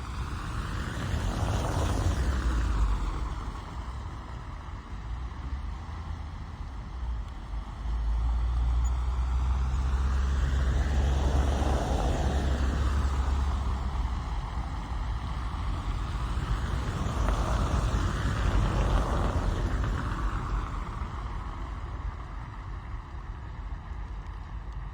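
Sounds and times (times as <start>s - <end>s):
car engine rumble: 0.0s - 24.9s
passing vehicles on wet road: 0.0s - 24.9s.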